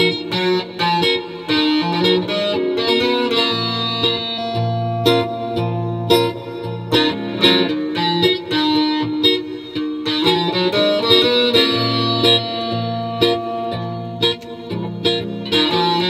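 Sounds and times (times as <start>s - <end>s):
looped acoustic guitar: 0.0s - 16.0s.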